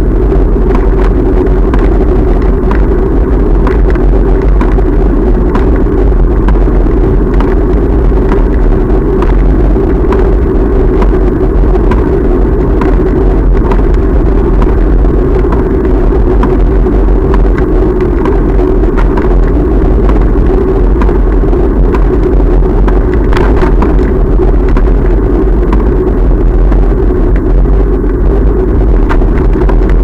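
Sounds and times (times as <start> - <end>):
bicycle road noise: 0.0 - 30.0
wind rumble on microphone: 0.0 - 30.0
clicks and knocks from bumps: 0.6 - 30.0.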